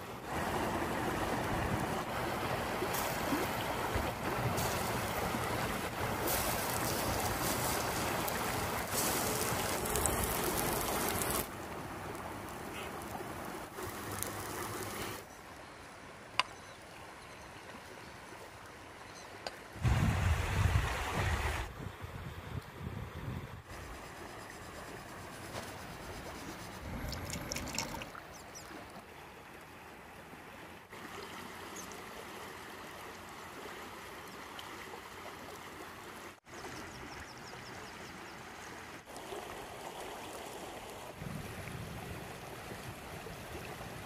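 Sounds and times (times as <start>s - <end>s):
flowing water rushing: 0.0s - 21.7s, 23.7s - 37.6s, 38.3s - 44.0s.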